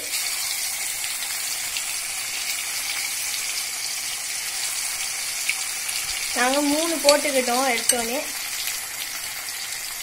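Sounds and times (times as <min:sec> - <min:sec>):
oil sizzling while deep-frying: 0:00.0 - 0:10.0.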